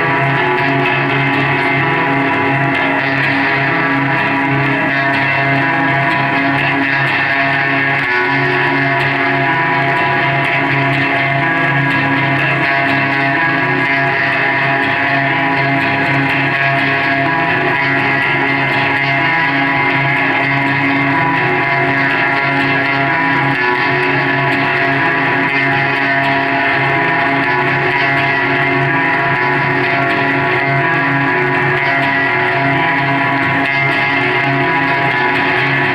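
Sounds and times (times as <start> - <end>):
electric guitar chords: 0.0 - 35.9
live rock band: 0.0 - 35.9.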